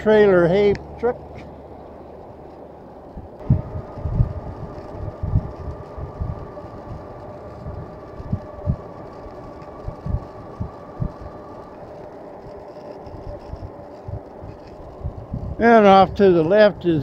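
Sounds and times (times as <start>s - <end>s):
steady mechanical hum: 0.0s - 17.0s
wind buffeting microphone: 0.0s - 17.0s.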